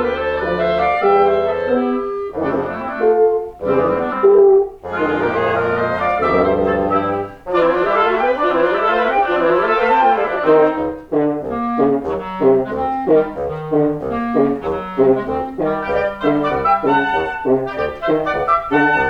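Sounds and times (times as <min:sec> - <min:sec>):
wind quintet playing chamber music: 0:00.0 - 0:19.0.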